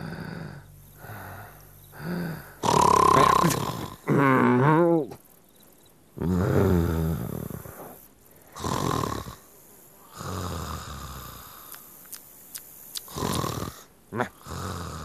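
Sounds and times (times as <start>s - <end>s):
cartoon snoring: 0.0s - 5.1s, 6.2s - 9.5s, 10.1s - 11.8s, 13.0s - 15.0s.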